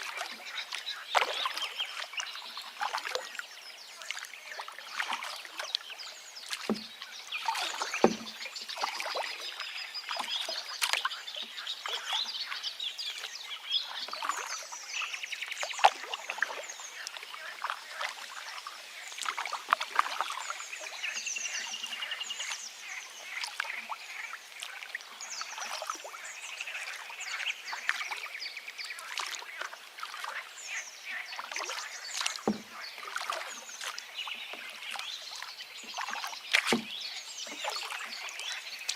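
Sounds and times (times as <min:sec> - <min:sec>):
river water running and splashing: 0:00.0 - 0:38.9
songbirds calling and trilling: 0:00.0 - 0:38.9.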